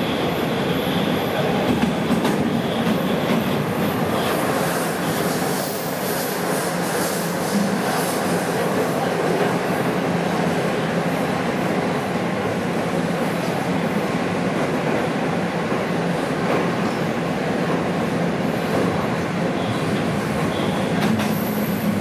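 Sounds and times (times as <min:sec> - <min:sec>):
subway train wheels rumbling on rails: 0:00.0 - 0:22.0.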